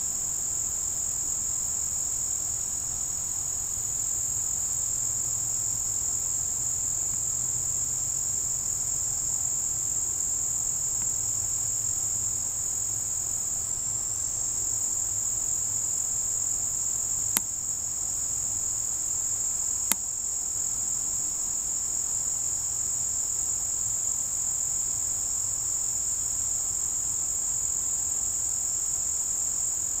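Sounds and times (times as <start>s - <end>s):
insect chorus trilling: 0.0s - 30.0s.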